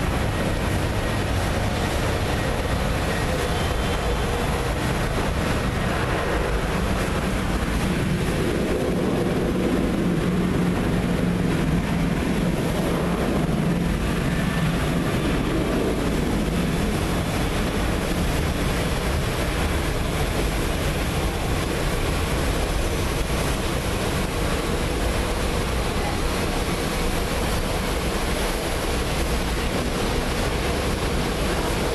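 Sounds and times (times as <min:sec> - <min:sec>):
heavy rain: 0:00.0 - 0:31.9
jet engine rushing: 0:00.0 - 0:31.9.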